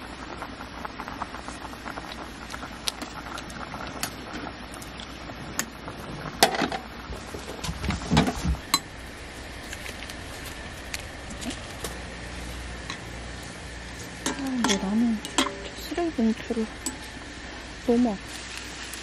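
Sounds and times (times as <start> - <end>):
rain patter: 0.0 - 19.0.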